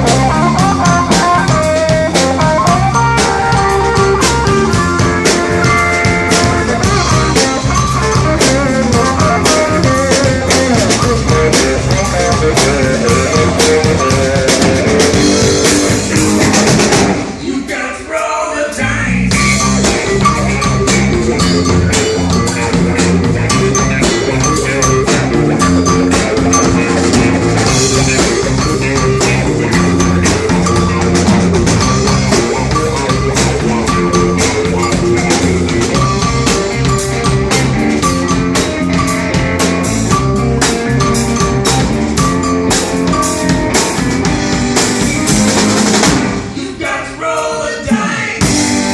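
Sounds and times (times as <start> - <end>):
live rock band playing: 0.0 - 17.4, 19.2 - 46.8, 47.9 - 48.9.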